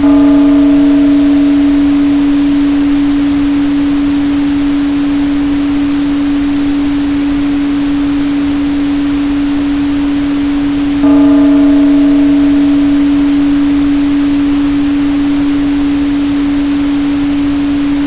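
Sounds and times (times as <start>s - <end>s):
ringing overtones of struck tone: 0.0s - 18.0s
steady pure tone: 0.0s - 18.0s.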